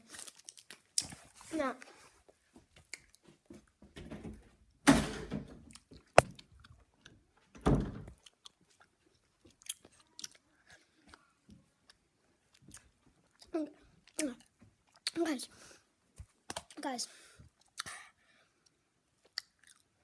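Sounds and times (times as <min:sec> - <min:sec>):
child chewing food: 0:00.0 - 0:03.8, 0:05.6 - 0:20.0.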